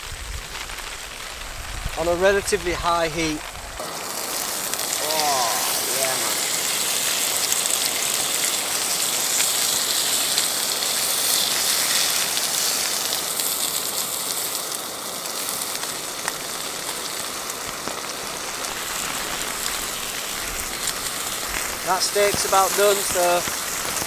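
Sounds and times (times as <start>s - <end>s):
steak sizzling in a pan: 0.0s - 24.0s.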